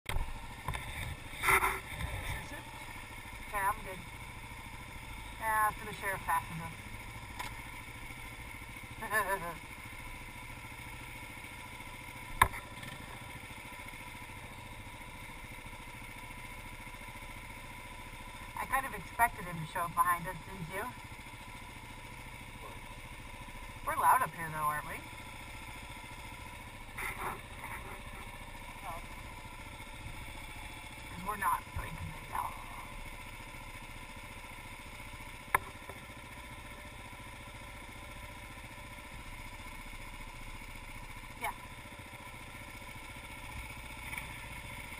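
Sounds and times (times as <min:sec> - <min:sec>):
motorcycle engine idling: 0:00.1 - 0:44.9.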